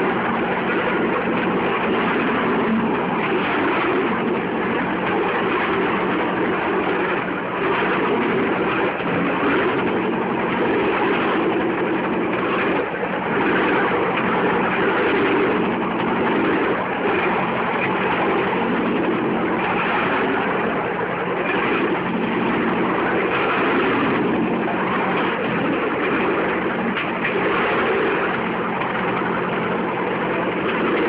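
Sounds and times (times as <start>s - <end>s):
wheels on rail track: 0.0s - 31.0s.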